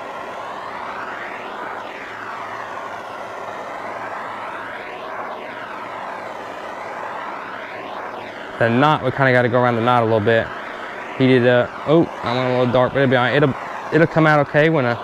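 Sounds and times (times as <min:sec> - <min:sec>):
propane torch hissing: 0:00.0 - 0:15.0.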